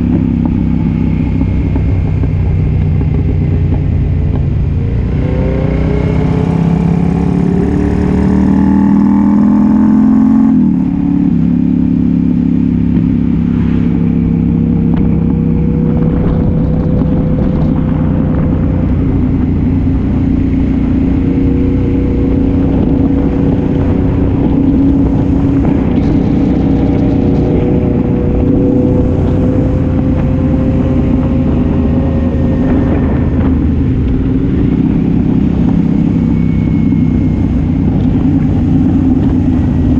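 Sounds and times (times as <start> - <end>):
low wind rush: 0.0 - 39.9
motorcycle engine accelerating: 0.0 - 39.9.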